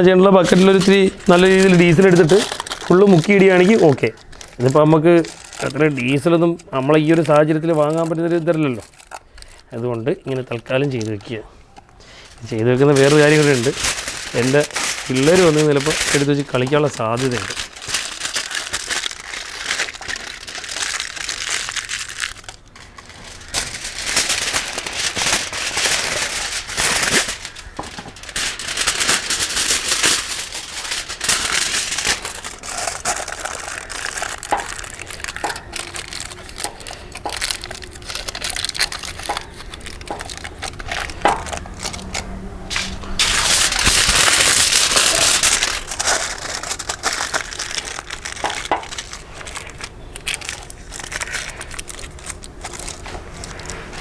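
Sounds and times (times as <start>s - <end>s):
wrapping material crinkling: 0.0s - 54.0s.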